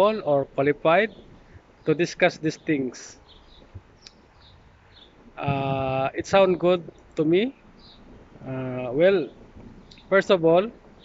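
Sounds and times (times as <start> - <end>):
bird chirps: 0.9 - 10.2.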